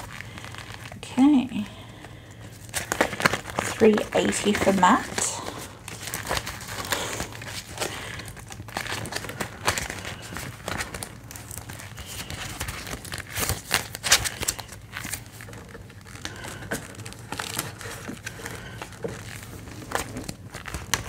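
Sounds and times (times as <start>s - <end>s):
plastic pockets crinkling: 0.0s - 21.0s.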